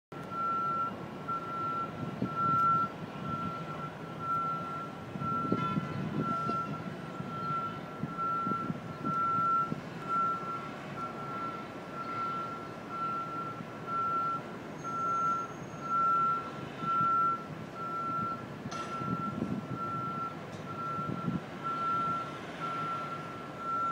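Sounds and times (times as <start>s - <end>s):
city background noise: 0.1s - 23.9s
backup warning alarm beeping: 0.2s - 23.9s.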